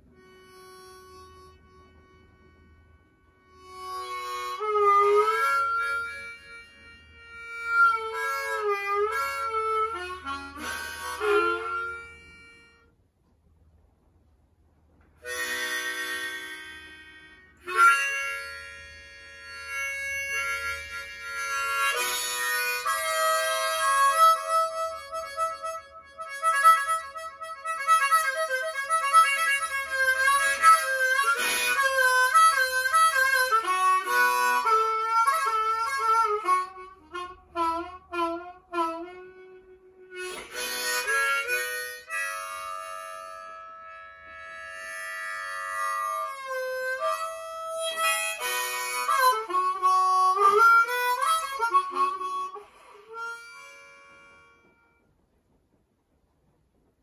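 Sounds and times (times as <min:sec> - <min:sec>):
harmonica melody: 0:00.0 - 0:13.0, 0:15.2 - 0:55.2.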